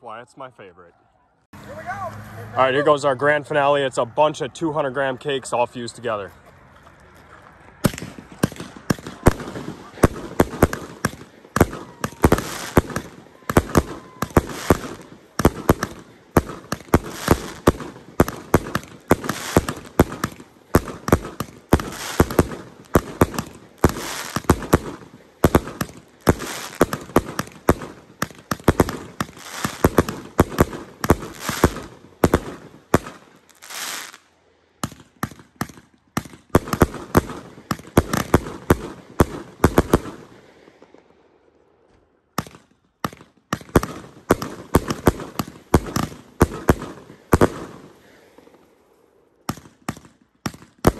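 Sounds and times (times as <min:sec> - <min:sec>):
fireworks launching and bursting: 0:07.7 - 0:50.9.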